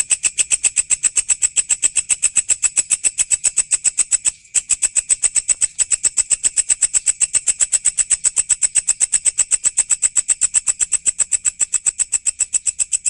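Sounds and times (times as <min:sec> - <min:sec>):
grasshopper chirping: 0:00.0 - 0:13.0.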